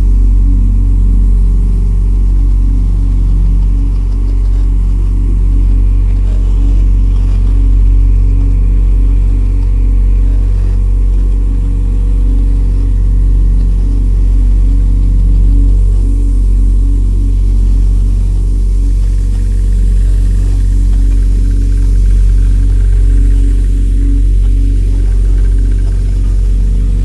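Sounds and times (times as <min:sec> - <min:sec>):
deep bass drone: 0:00.0 - 0:27.0
low synth tones: 0:00.0 - 0:27.0.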